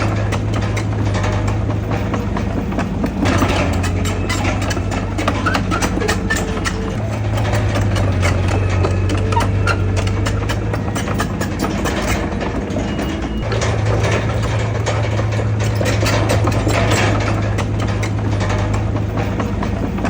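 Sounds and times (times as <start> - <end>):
heavy diesel engine running: 0.0 - 20.0
metallic clicks and clanks: 0.0 - 20.0.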